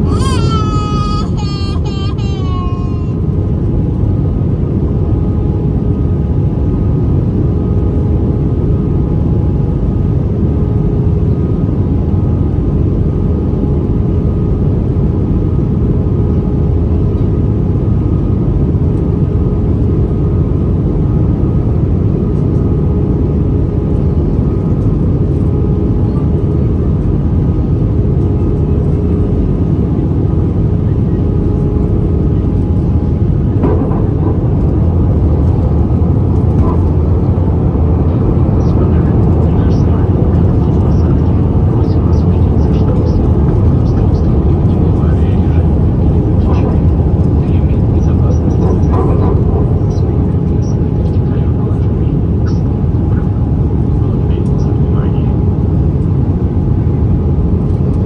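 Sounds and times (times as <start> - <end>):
faint steady hum: 0.0 - 58.0
jet engine rumble: 0.0 - 58.0.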